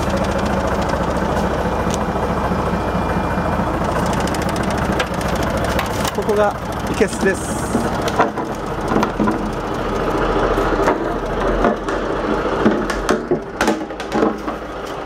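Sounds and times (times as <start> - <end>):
steady mechanical running: 0.0 - 15.0.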